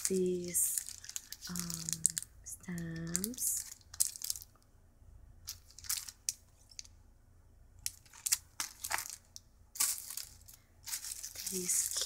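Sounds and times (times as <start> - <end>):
plastic packaging crinkling: 0.0 - 4.6, 5.5 - 6.9, 7.8 - 12.0.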